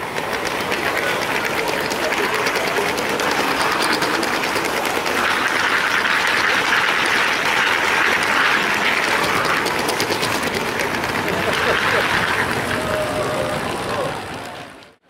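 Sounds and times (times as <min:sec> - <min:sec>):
toy train rattling on plastic track: 0:00.0 - 0:15.0.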